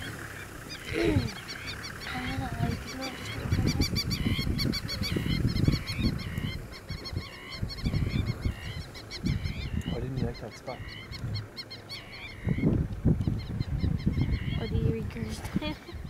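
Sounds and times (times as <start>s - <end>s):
birds chattering: 0.0s - 16.0s
wind buffeting microphone: 0.0s - 16.0s.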